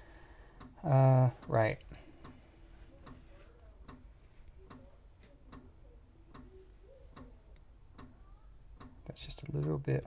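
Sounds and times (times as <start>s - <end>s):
faint regular ticking: 0.1s - 10.0s.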